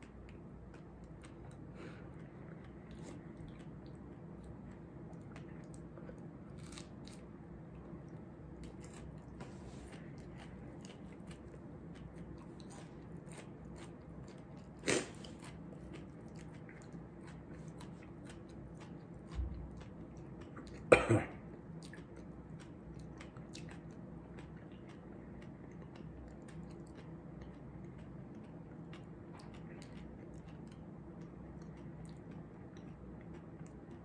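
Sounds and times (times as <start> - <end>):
person chewing crunchy snack: 0.0 - 34.0.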